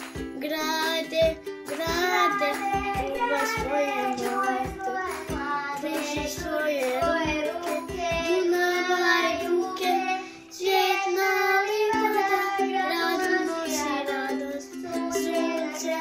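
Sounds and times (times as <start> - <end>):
instrumental backing music: 0.0 - 16.0
child singing: 0.4 - 16.0.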